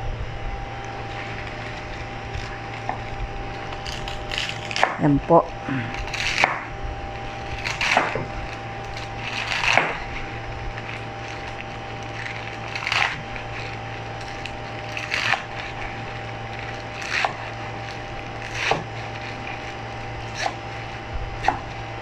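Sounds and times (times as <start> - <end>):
knife crunching through stalks: 0.7 - 22.0.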